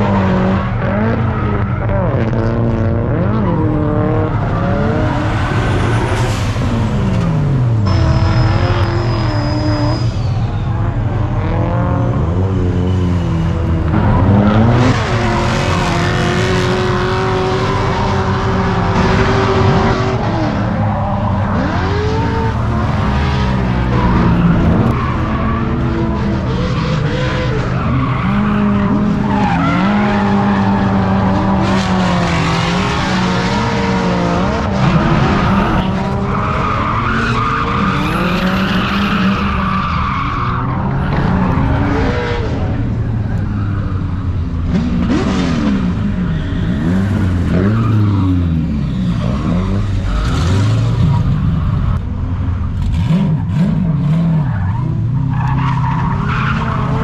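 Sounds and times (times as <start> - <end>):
car engines revving: 0.0 - 57.0
tires squealing on asphalt: 0.0 - 57.0.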